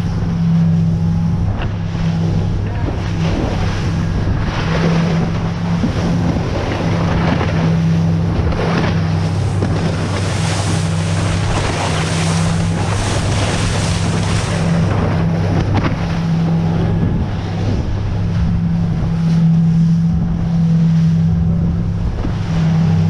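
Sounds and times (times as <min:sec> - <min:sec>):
boat engine humming: 0:00.0 - 0:23.0
water rushing past hull: 0:00.0 - 0:23.0
wind on microphone: 0:00.0 - 0:23.0.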